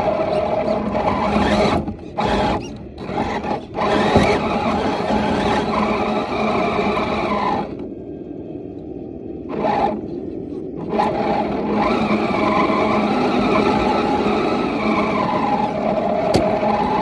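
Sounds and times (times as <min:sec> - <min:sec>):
electric motor and gears whining: 0:00.0 - 0:07.9, 0:09.4 - 0:17.0.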